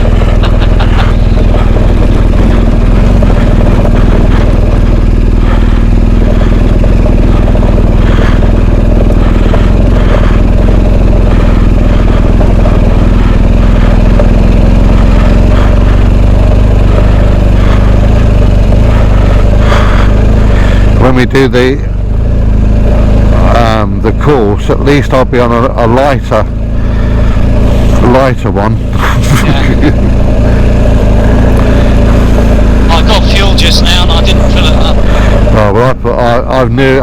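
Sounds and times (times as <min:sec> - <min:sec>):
motorcycle engine rumble: 0:00.0 - 0:37.0.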